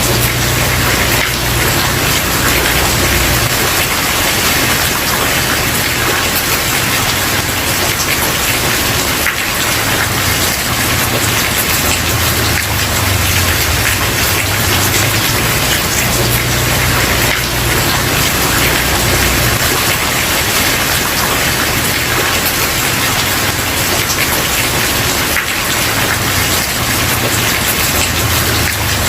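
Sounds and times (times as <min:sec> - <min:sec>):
rain on a wooden porch: 0:00.0 - 0:29.0.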